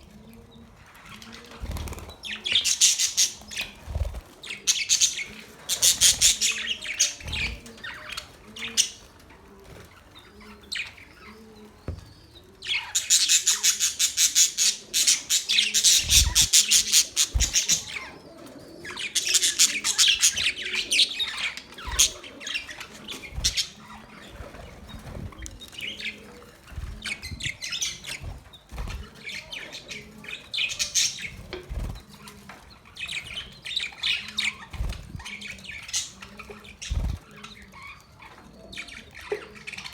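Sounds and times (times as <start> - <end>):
budgerigars chirping and chattering: 0.5 - 39.9.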